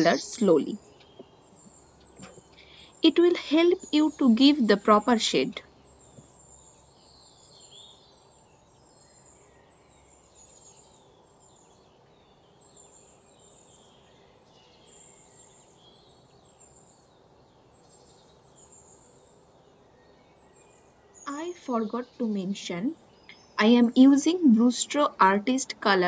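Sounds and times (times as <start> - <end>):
low room hiss: 0.0 - 26.0
small birds chirping: 0.0 - 26.0.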